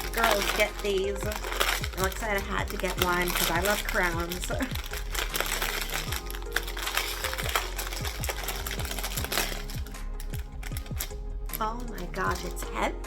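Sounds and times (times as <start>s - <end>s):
packaging clicking and rustling: 0.0s - 12.7s
music with steady bass beat: 0.0s - 13.0s.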